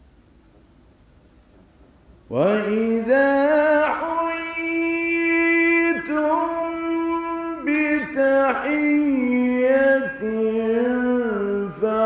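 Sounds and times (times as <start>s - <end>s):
man chanting melodically: 2.3s - 12.0s.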